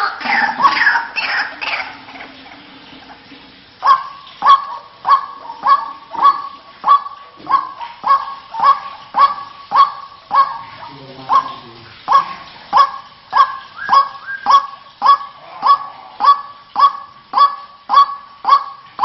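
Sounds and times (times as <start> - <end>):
bird calling: 0.0 - 2.7, 3.8 - 19.0.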